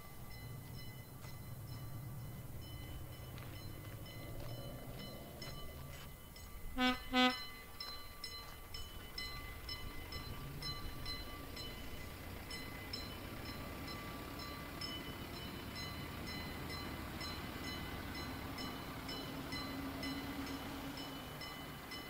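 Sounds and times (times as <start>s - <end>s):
bell ringing: 0.0s - 22.0s
low engine tone: 0.0s - 22.0s
train rumble: 0.0s - 22.0s.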